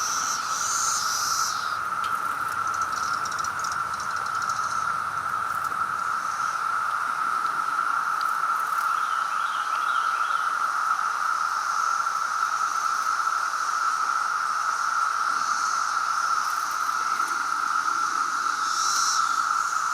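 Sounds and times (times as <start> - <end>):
cicadas droning: 0.0 - 19.9
faint high-pitched hiss: 0.0 - 19.9.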